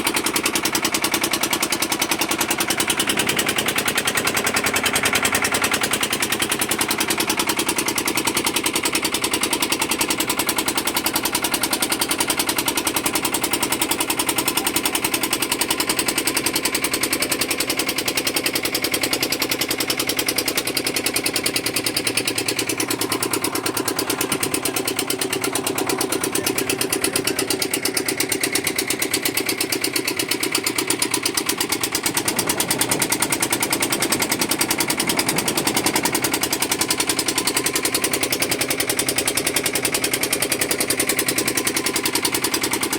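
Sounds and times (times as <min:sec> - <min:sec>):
engine chugging: 0:00.0 - 0:42.9.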